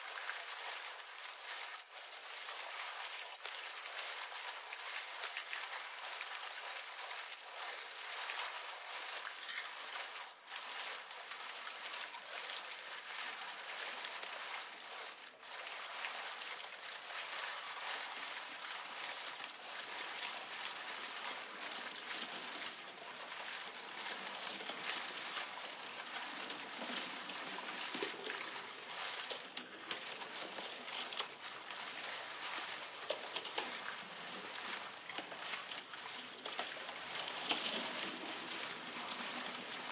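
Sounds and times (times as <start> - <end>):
ice crackling and crinkling: 0.0 - 39.9.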